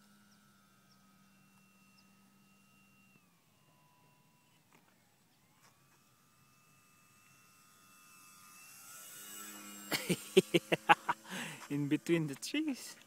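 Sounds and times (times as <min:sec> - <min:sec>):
model plane motor droning: 0:00.0 - 0:13.0.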